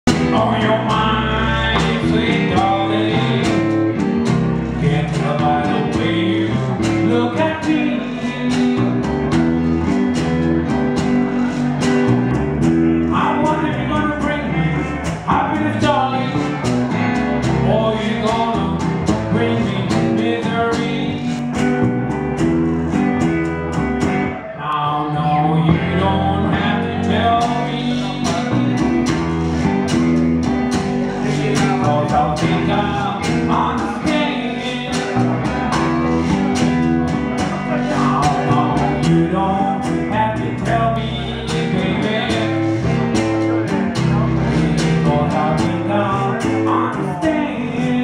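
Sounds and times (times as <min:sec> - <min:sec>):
man singing: 0:00.0 - 0:22.2, 0:22.9 - 0:48.0
acoustic guitar: 0:00.0 - 0:48.0
electric guitar: 0:00.0 - 0:48.0.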